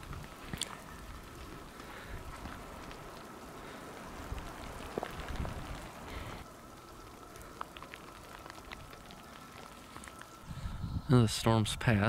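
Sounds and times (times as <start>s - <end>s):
raindrops ticking: 0.0s - 10.5s
faint rain: 0.0s - 12.0s.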